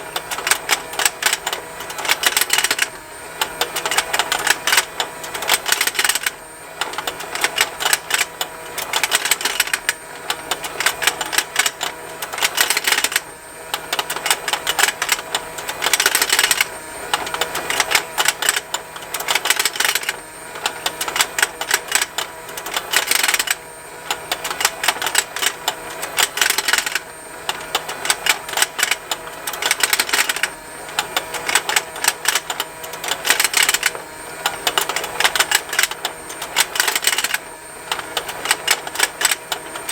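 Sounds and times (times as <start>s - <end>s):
toy motor and gears ticking: 0.0s - 39.9s.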